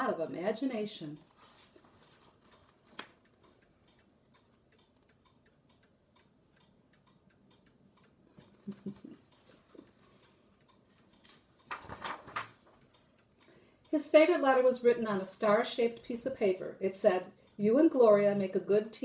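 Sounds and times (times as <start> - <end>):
faint regular ticking: 2.0 - 11.8, 12.6 - 18.8.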